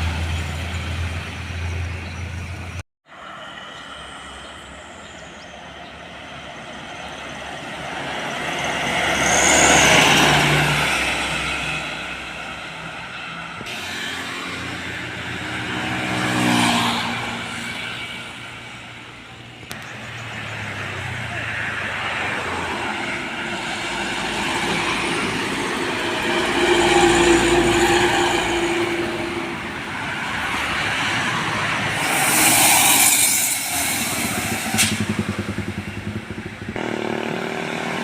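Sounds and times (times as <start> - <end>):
trucks passing by: 0.0 - 38.0.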